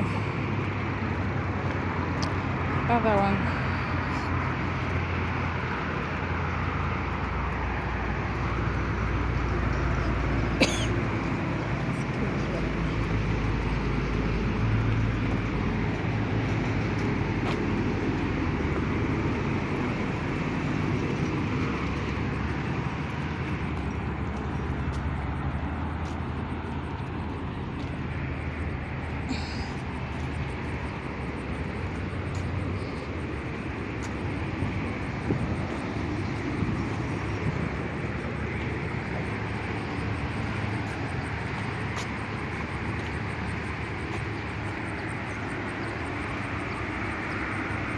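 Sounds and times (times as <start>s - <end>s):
distant engine drone: 0.0s - 47.9s.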